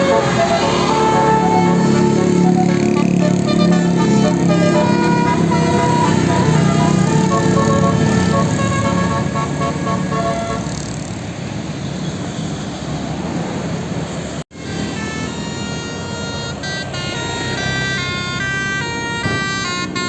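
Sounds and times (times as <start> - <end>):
multi-tone bus horn tune: 0.0 - 11.1, 14.5 - 20.0
bus engine: 0.0 - 20.0
road noise: 0.0 - 20.0.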